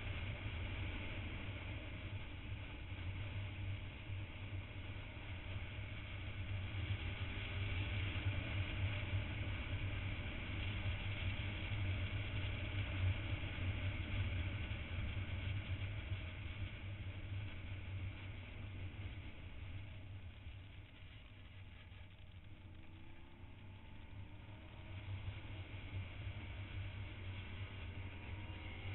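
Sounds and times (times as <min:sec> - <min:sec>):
motorcycle engine hum: 0:00.0 - 0:28.9.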